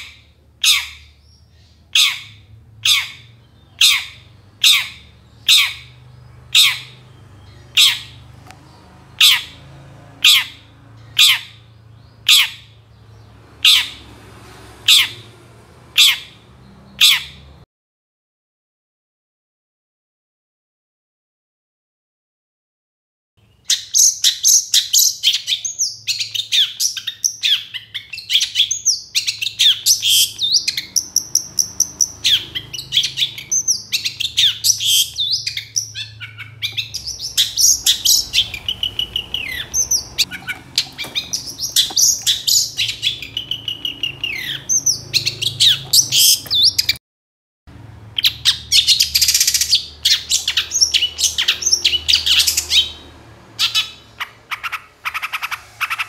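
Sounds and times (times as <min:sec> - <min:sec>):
bird singing chirps and trills: 0:00.0 - 0:14.2, 0:16.0 - 0:17.6, 0:23.4 - 0:47.0, 0:48.2 - 0:56.0
harsh buzzy bird chatter: 0:00.0 - 0:17.6, 0:23.5 - 0:47.0, 0:48.1 - 0:56.0.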